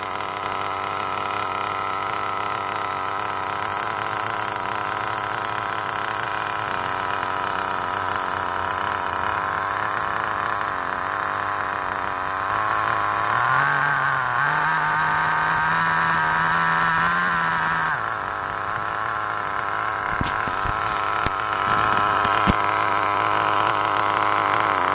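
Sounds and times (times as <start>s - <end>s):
small two-stroke engine idling: 0.0s - 24.9s.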